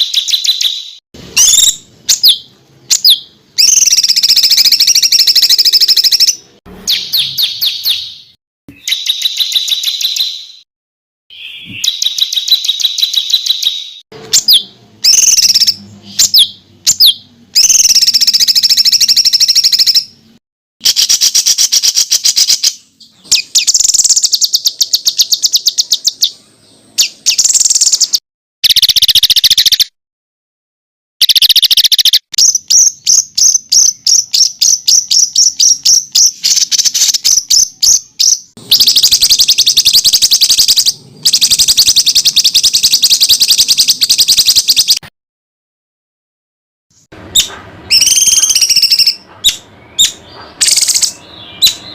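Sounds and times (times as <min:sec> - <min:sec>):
songbird trills: 0:00.0 - 0:10.6, 0:11.3 - 0:20.1, 0:20.8 - 0:29.9, 0:31.2 - 0:45.0, 0:47.3 - 0:51.9.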